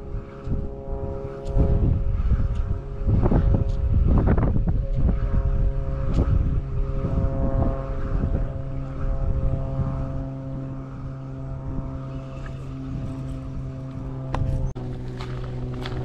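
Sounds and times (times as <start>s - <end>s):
engine droning: 0.0s - 16.0s
wind buffeting microphone: 0.0s - 16.0s.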